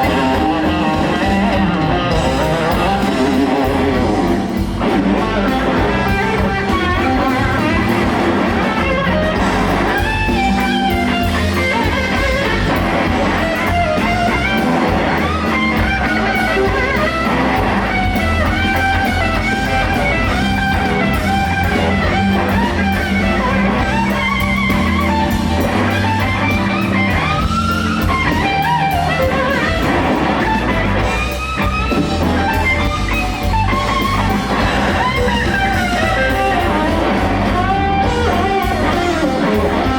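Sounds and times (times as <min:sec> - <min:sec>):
bass guitar: 0:00.0 - 0:39.9
drum kit: 0:00.0 - 0:39.9
electric guitar solo: 0:00.0 - 0:39.9.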